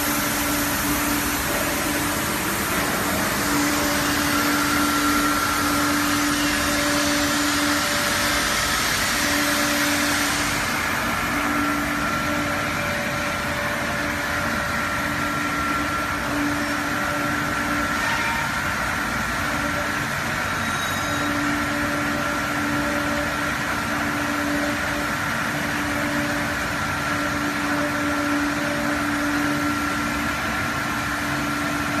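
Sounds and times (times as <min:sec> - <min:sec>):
low machine tone: 0:00.0 - 0:32.0
machine hum and hiss: 0:00.0 - 0:32.0.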